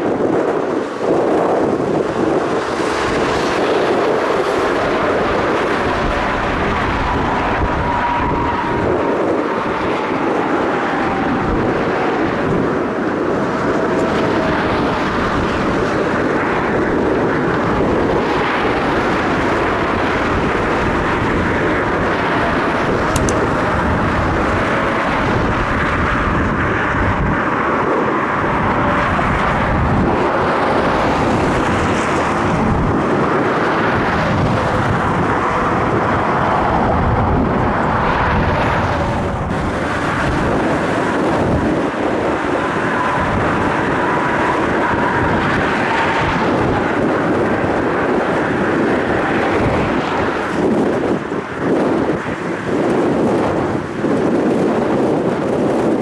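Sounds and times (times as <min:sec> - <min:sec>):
jet engines running: 0:00.0 - 0:56.0
wind buffeting microphone: 0:00.0 - 0:56.0.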